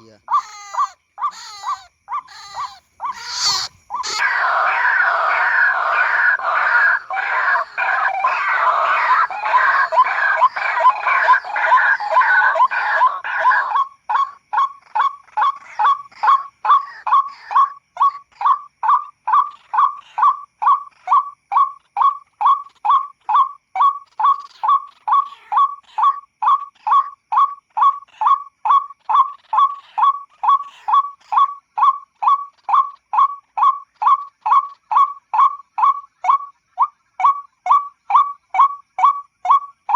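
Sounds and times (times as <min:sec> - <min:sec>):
waterhen calls: 0:00.0 - 0:39.9.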